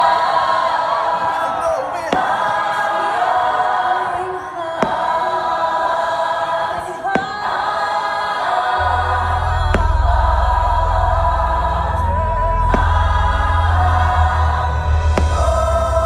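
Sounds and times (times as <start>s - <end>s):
choir holding long chords: 0.0s - 16.0s.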